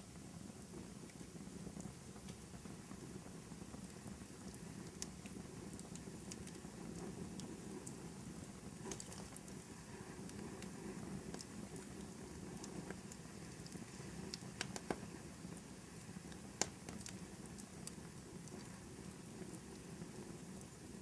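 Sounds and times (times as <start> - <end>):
wood fire crackling: 0.0 - 21.0
fire sharp pops: 0.5 - 21.0.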